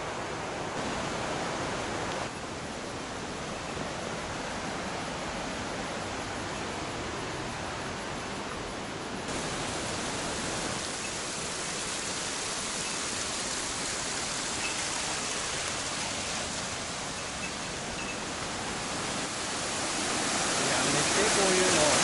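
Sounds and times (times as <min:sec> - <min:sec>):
mountain stream rushing over rocks: 0:00.0 - 0:22.0.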